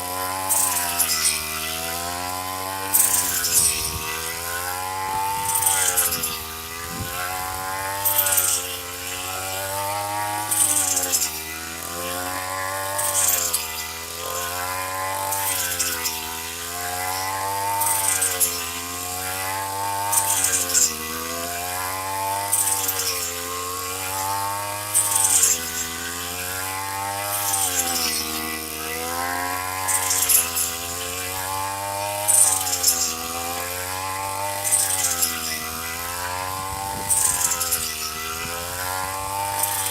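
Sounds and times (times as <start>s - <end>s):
two-stroke engine running: 0.0s - 39.9s.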